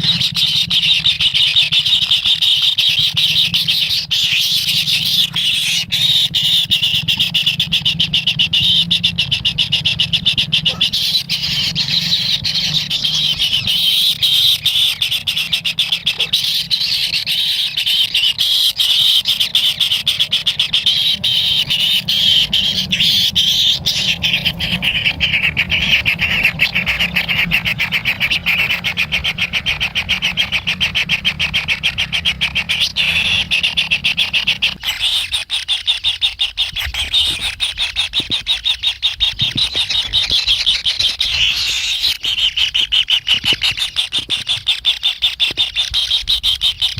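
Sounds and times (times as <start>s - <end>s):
bird chicks begging: 0.0s - 46.9s
low background hum: 0.0s - 46.9s.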